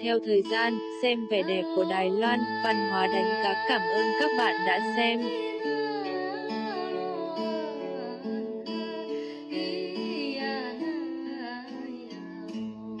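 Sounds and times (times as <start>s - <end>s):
gliding melody line: 0.0s - 12.1s
plucked guitar accompaniment: 0.0s - 13.0s.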